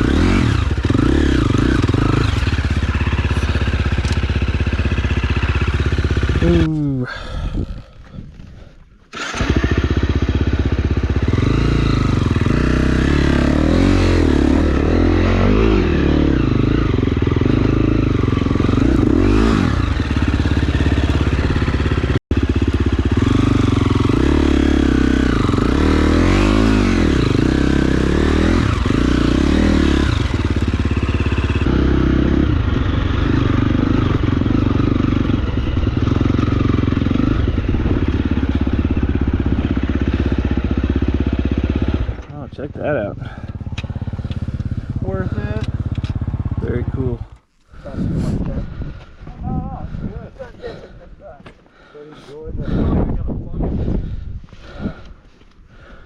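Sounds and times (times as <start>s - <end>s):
dirt bike engine revving: 0.0s - 6.8s, 9.1s - 48.8s.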